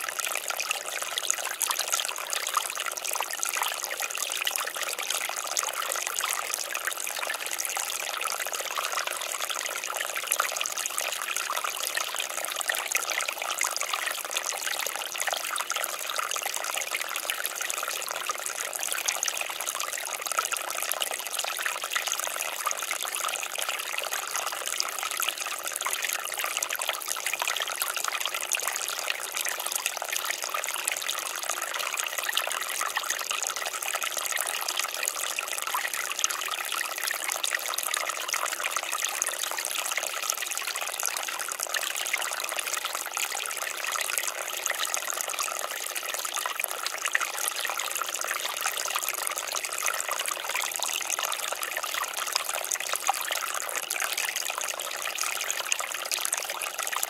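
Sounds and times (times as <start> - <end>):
creek trickling over rocks: 0.0 - 57.0.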